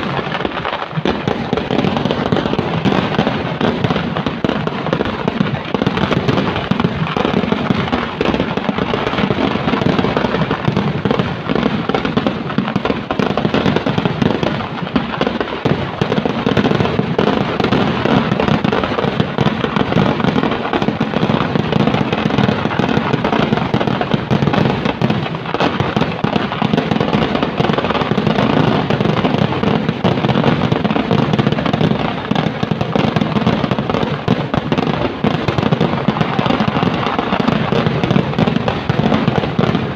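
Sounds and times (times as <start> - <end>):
fireworks barrage of bangs: 0.0 - 39.9.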